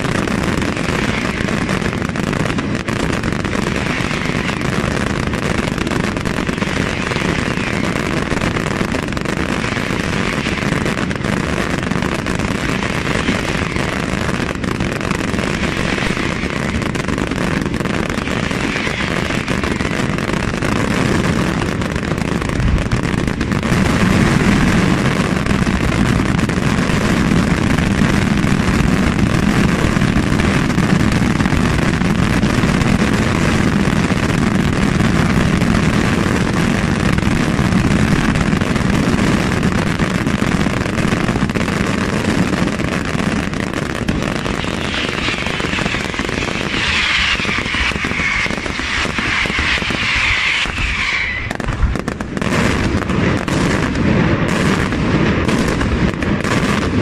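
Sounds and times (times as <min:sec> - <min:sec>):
fireworks crackling barrage: 0:00.0 - 0:57.0.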